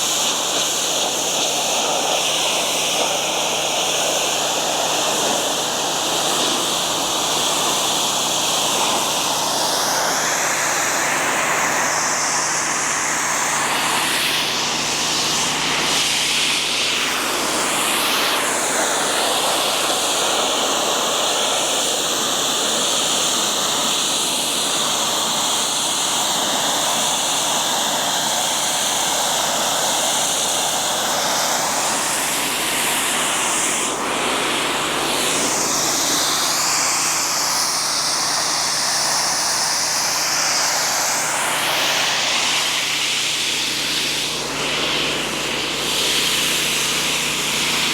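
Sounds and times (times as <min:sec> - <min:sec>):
pressure washer jet hissing: 0:00.0 - 0:47.9.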